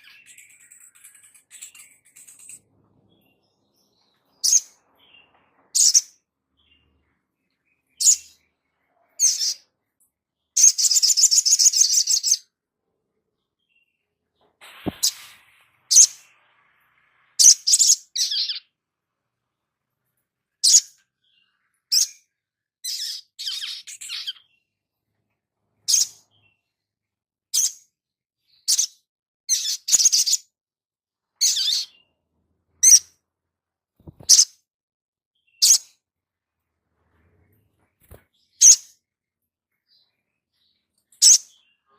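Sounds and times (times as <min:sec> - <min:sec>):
small bird chirping: 0:00.0 - 0:12.6, 0:13.2 - 0:18.8, 0:19.5 - 0:30.6, 0:31.3 - 0:33.2, 0:34.0 - 0:34.7, 0:35.4 - 0:36.1, 0:37.0 - 0:41.9.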